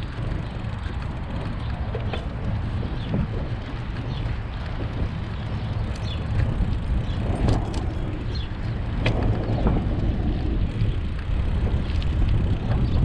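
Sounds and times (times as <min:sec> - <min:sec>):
tyres rumbling on asphalt: 0:00.0 - 0:13.0
wind rushing over microphone: 0:00.0 - 0:13.0.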